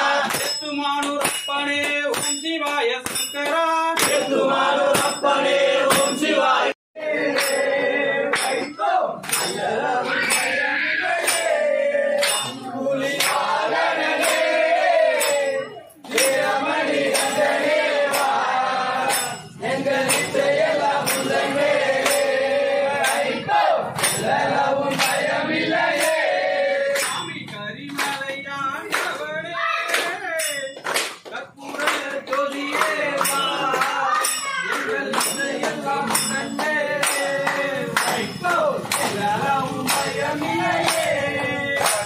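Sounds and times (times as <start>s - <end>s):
group singing devotional song: 0.0s - 2.3s, 2.9s - 29.3s, 31.4s - 42.0s.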